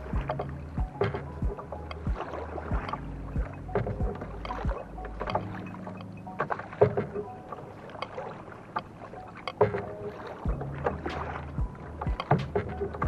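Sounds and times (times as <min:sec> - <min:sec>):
paddle knocking against canoe: 0:00.0 - 0:05.8, 0:06.4 - 0:13.0
paddle splashing water: 0:00.0 - 0:13.0.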